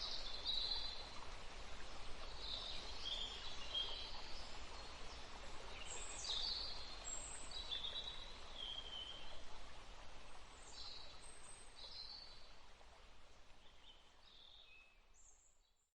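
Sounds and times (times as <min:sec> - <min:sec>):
stream running: 0:00.0 - 0:15.3.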